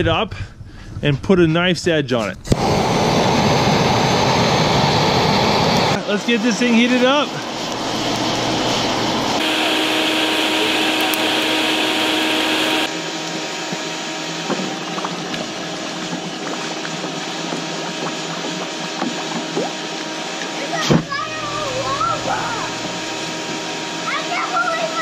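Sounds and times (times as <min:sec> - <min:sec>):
forge blower noise: 0:02.5 - 0:25.0.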